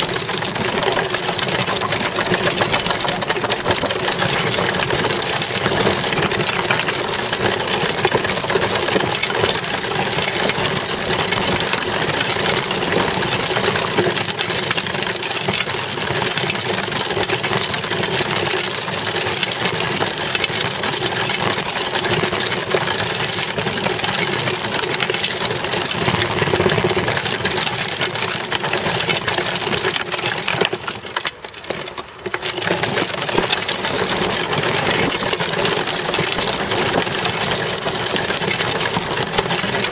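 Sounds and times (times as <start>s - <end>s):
bicycle rolling over asphalt: 0.0s - 39.9s.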